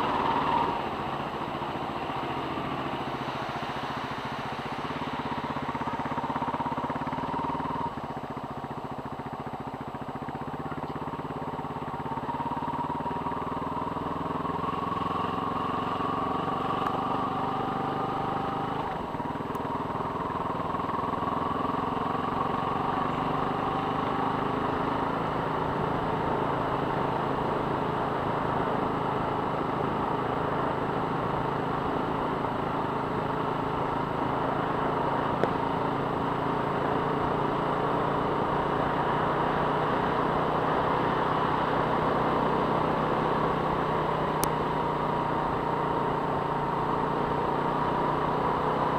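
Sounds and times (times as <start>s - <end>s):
tyres on gravel road: 0.0s - 48.9s
vehicle engine running: 0.0s - 48.9s.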